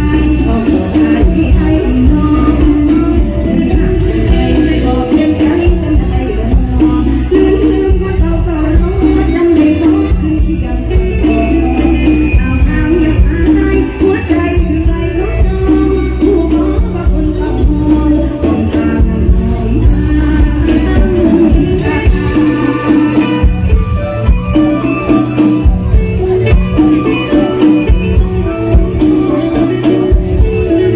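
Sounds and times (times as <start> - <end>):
drum kit heavy beat: 0.0 - 30.9
live band music over speakers: 0.0 - 30.9
woman singing: 0.0 - 30.9.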